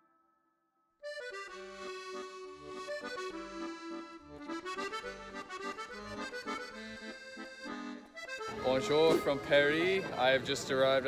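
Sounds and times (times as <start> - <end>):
lively accordion tune: 1.0 - 11.0.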